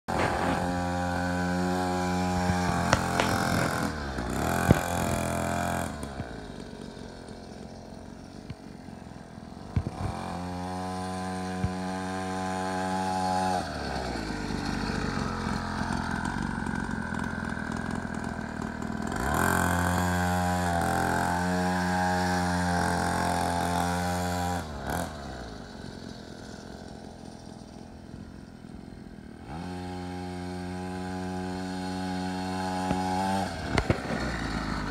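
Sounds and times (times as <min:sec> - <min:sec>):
dirt bike engine running: 0:00.1 - 0:34.9.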